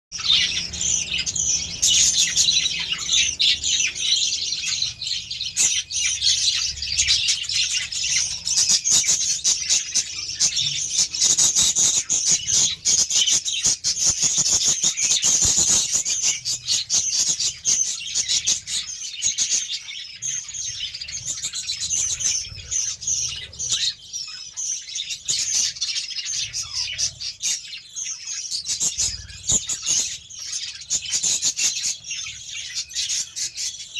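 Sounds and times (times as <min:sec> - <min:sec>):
budgerigars chattering: 0:00.2 - 0:33.9.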